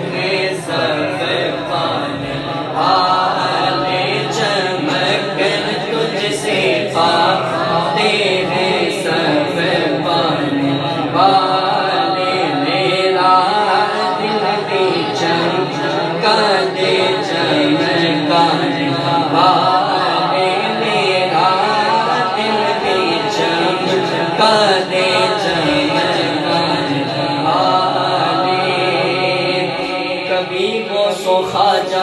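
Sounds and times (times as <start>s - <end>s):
person singing devotional song: 0.0s - 32.0s.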